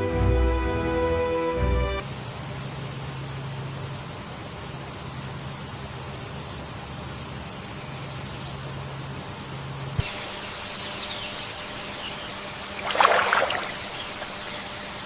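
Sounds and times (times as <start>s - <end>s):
high-pitched insect hiss: 2.0s - 15.0s.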